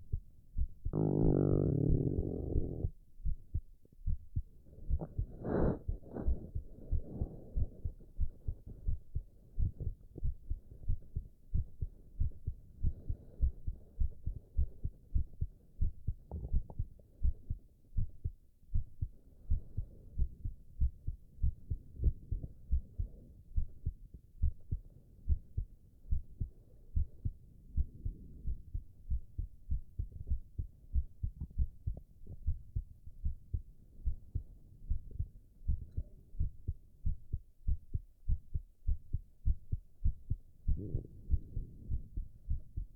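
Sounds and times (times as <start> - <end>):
heartbeat thumps: 0.0 - 42.9.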